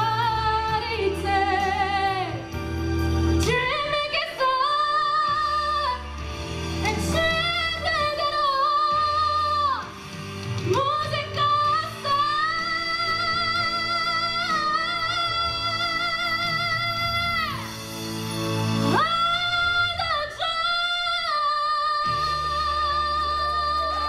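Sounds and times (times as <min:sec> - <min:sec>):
woman singing with vibrato: 0:00.0 - 0:02.6, 0:03.4 - 0:06.2, 0:06.8 - 0:10.0, 0:10.6 - 0:17.8, 0:18.8 - 0:24.0
backing music: 0:00.0 - 0:24.0.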